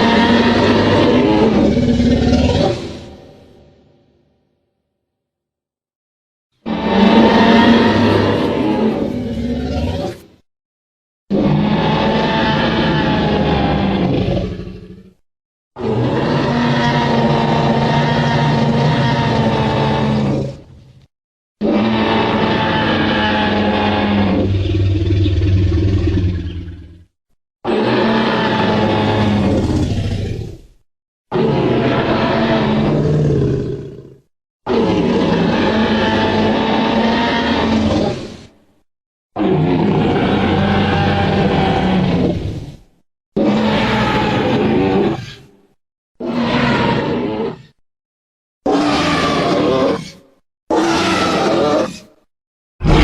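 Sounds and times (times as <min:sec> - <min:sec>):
dinosaur roar: 0:00.0 - 0:03.8, 0:06.6 - 0:10.3, 0:11.3 - 0:15.2, 0:15.8 - 0:20.8, 0:21.6 - 0:27.1, 0:27.7 - 0:38.6, 0:39.4 - 0:47.8, 0:48.7 - 0:53.0.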